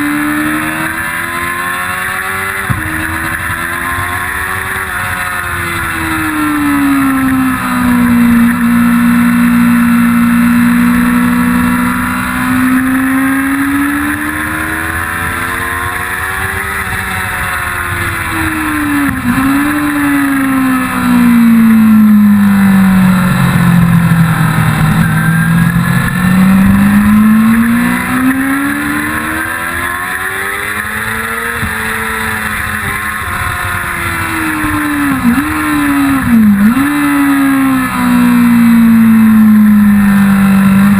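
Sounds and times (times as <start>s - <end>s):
motorcycle engine at high speed: 0.0s - 40.9s.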